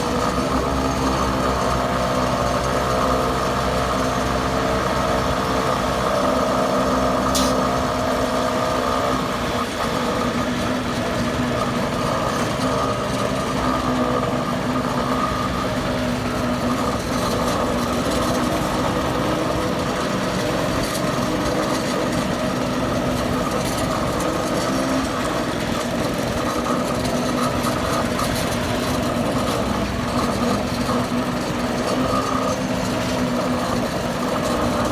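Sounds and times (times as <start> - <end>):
heavy vehicle engine running: 0.0 - 34.9.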